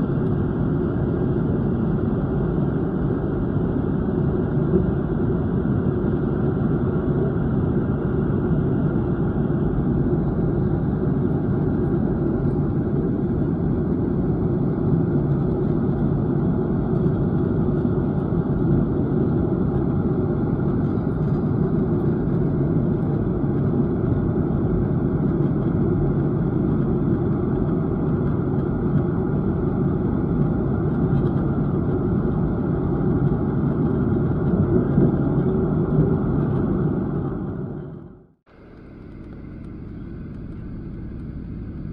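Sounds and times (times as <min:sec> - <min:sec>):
jet engines and cabin airflow: 0:00.0 - 0:41.9.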